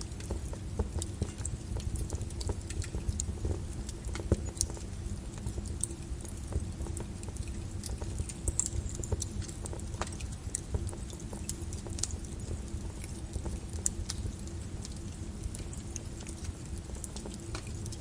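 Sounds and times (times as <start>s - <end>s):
lava crackling and clinking: 0.0s - 18.0s
sharp pops and ticks: 0.0s - 18.0s.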